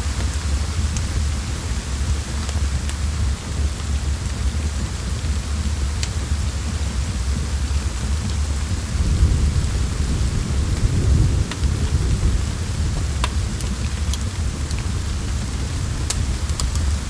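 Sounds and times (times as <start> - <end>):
deep low rumble: 0.0 - 17.0
rain hissing: 0.0 - 17.0
wood fire crackling: 0.0 - 17.0.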